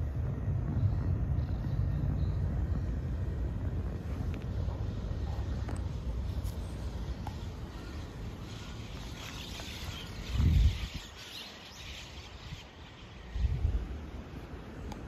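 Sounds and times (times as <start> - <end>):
wind buffeting microphone: 0.0 - 15.0
flock of small birds chattering: 0.7 - 13.8.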